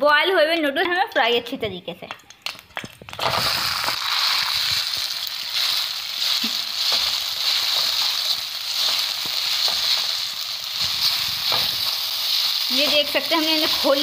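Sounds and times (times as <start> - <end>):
spaghetti sizzling in hot oil: 2.4 - 14.0.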